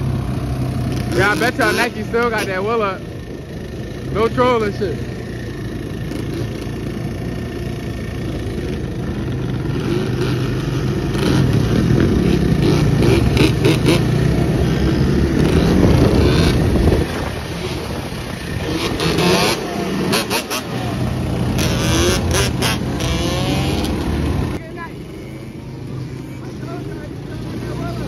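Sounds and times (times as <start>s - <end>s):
quad engine revving: 0.0s - 28.0s.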